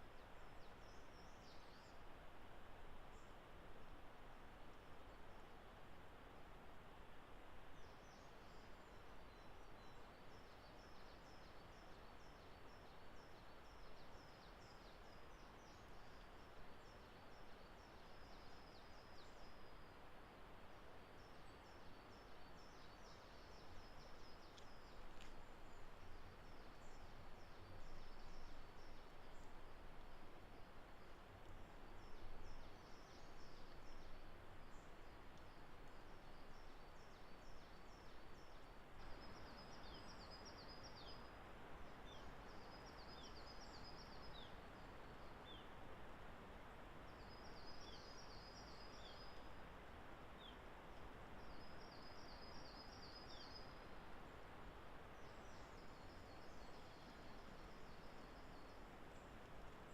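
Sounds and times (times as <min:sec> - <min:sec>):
steady low hiss: 0:00.0 - 0:59.9.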